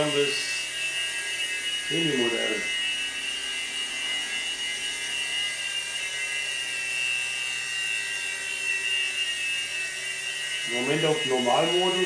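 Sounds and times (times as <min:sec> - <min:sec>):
toy helicopter motor whirring: 0:00.0 - 0:12.0.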